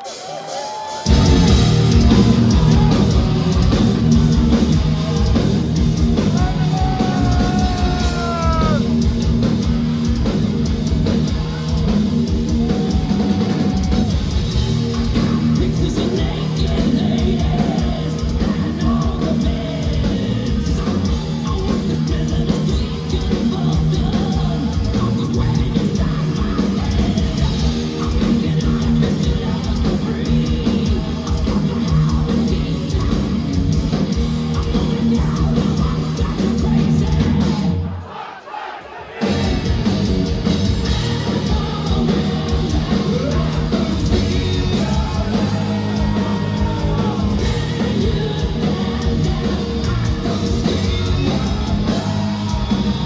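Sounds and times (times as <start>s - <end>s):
heavy metal band playing: 0.0s - 53.0s.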